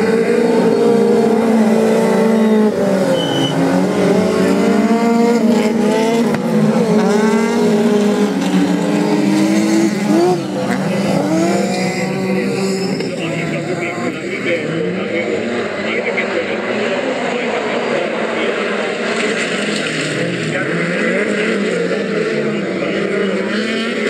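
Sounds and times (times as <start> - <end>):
race car engines revving: 0.0 - 24.0.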